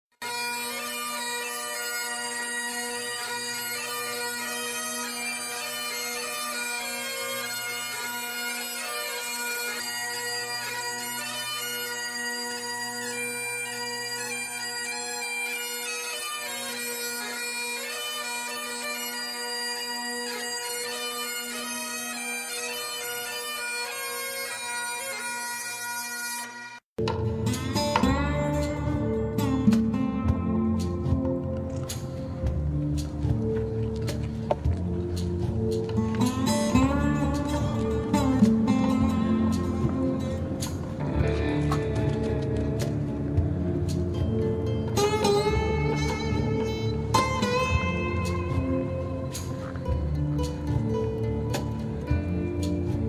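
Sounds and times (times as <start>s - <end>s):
instrumental melody: 0.2s - 53.0s.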